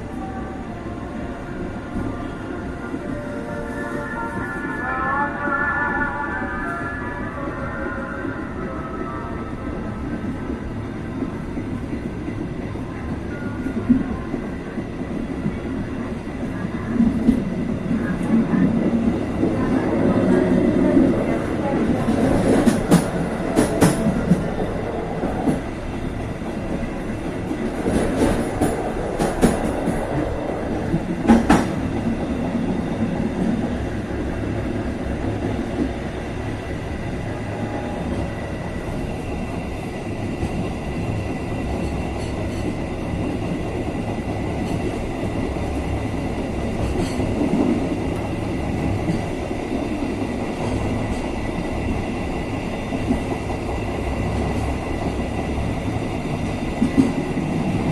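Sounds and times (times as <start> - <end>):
train wheels rumbling on track: 0.0 - 57.9.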